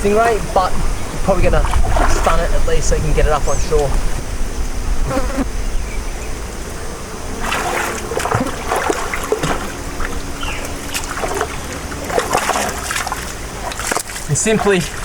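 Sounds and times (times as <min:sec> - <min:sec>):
river water splashing: 0:00.0 - 0:04.6, 0:06.5 - 0:15.0.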